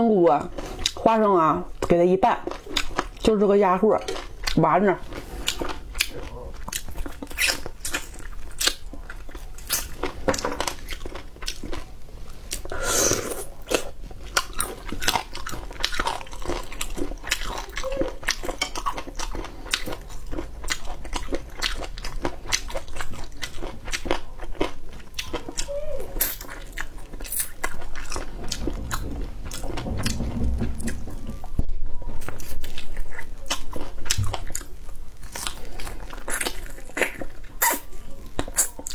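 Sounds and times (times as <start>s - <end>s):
person chewing crunchy food: 0.5s - 1.0s, 1.7s - 3.4s, 4.0s - 38.9s.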